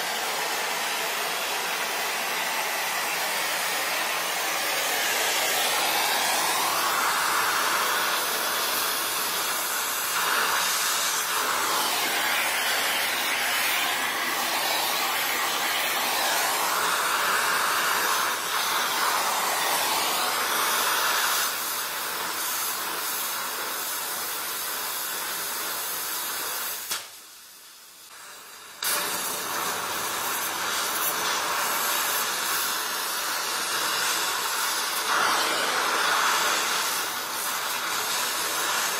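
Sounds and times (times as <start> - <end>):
welding torch flame hissing: 0.0 - 38.9.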